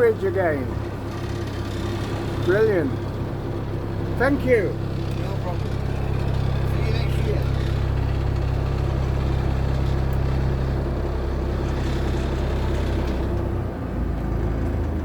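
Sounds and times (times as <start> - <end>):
boat engine low rumble: 0.0 - 15.0.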